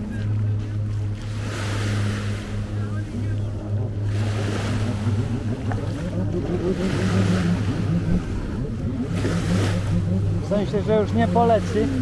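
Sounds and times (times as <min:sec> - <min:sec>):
low engine hum: 0:00.0 - 0:12.0
waves washing: 0:00.0 - 0:12.0.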